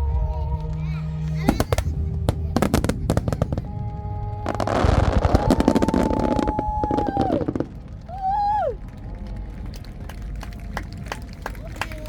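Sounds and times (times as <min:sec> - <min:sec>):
fireworks bursting and crackling: 0:01.3 - 0:12.0.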